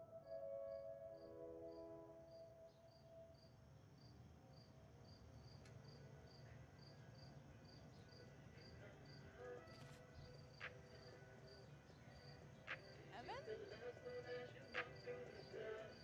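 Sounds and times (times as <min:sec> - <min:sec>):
cricket chirping: 0:00.1 - 0:16.0.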